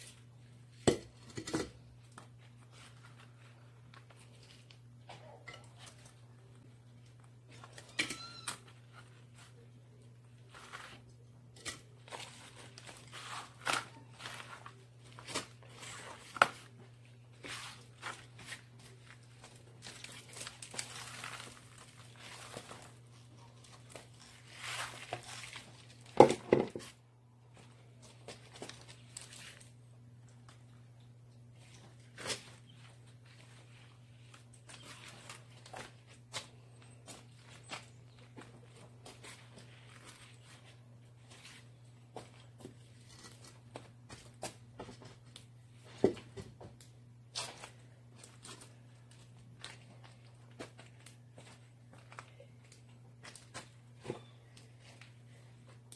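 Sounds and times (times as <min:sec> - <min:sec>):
hands rustling potting soil: 0:01.8 - 0:55.9.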